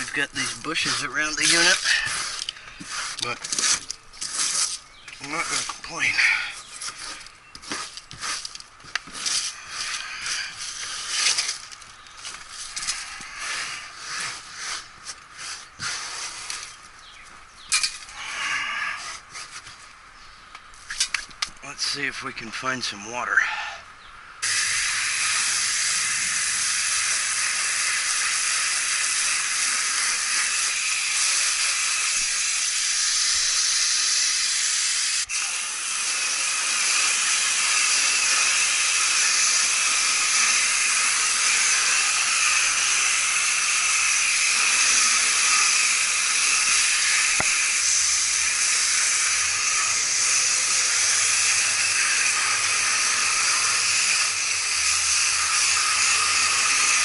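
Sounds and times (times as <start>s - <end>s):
hose spraying water: 0.0s - 17.1s, 24.4s - 57.0s.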